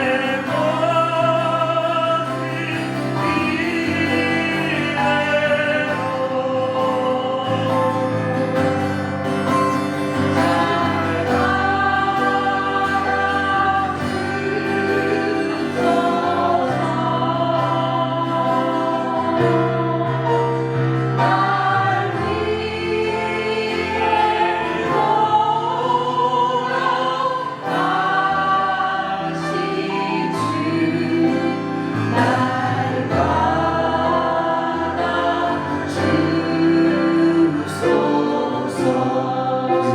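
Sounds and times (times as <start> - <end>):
group singing a hymn: 0.0 - 39.9
instrumental accompaniment: 0.0 - 39.9.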